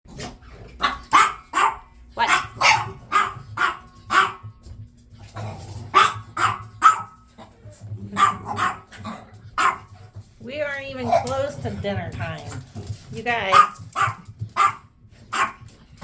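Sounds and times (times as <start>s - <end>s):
puppies barking: 0.7s - 4.7s, 5.8s - 10.2s, 11.0s - 16.0s.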